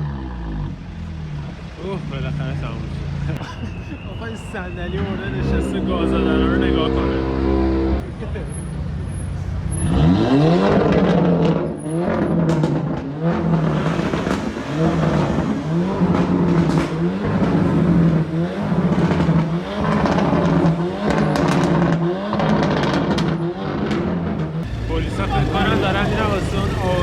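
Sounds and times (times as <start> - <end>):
car engine revving: 0.0 - 3.4, 5.0 - 27.0.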